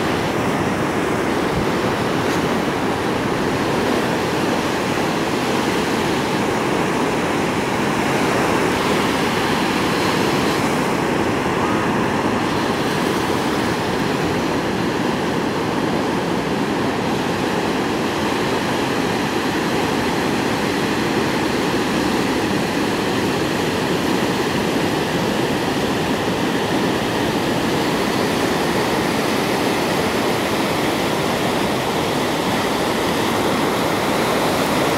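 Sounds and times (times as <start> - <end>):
surf breaking on a beach: 0.0 - 34.9.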